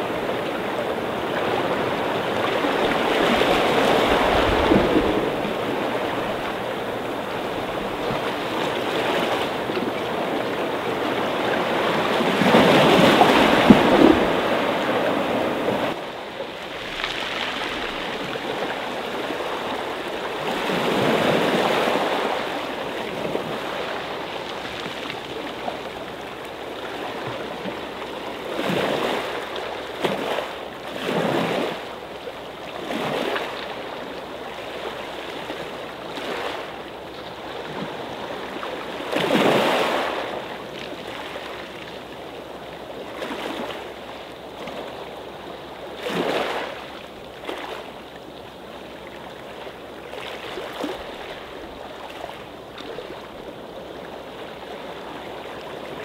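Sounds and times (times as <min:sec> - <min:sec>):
waves lapping on pebble beach: 0:00.0 - 0:56.0.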